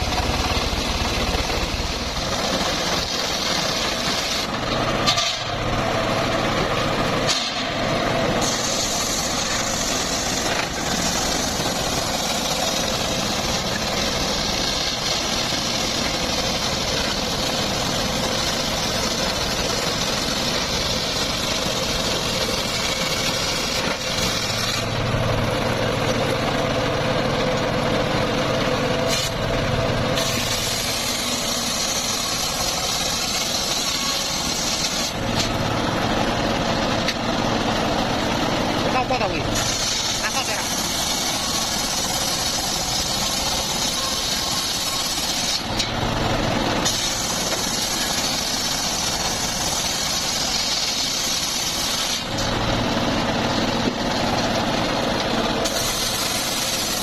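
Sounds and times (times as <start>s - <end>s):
engine-driven sawmill running: 0.0s - 57.0s.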